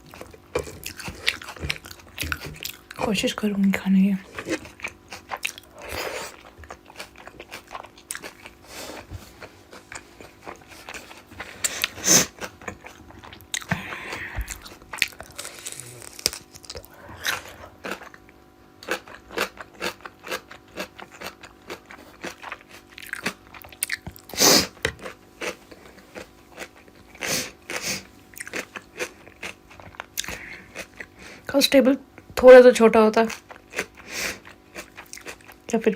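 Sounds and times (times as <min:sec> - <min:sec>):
person chewing food: 0:00.0 - 0:03.0, 0:04.2 - 0:31.5, 0:33.2 - 0:35.7.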